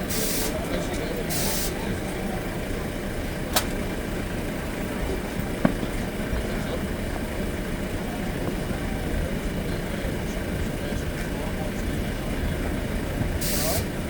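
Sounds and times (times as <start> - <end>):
murmur of voices: 0.0 - 14.0
traffic rumble: 0.0 - 14.0.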